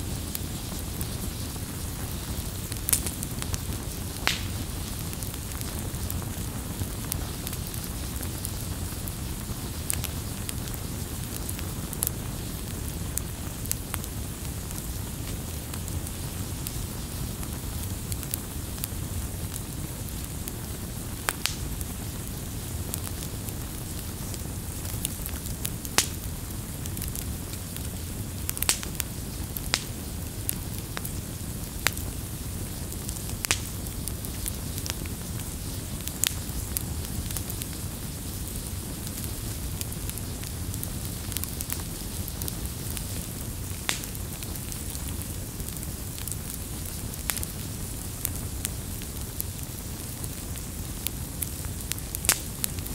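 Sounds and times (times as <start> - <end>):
campfire flames rushing: 0.0 - 52.9
logs crackling and popping: 0.0 - 52.9.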